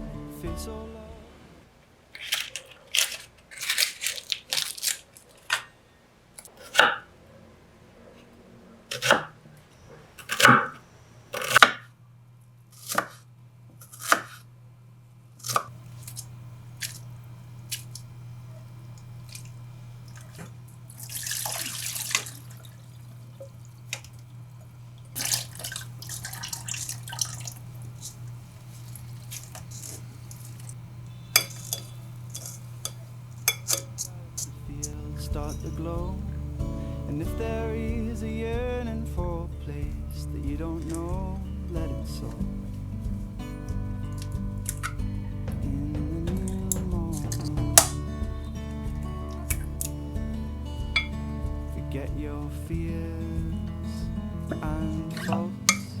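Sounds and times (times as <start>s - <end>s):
steady low hum: 10.8s - 56.0s.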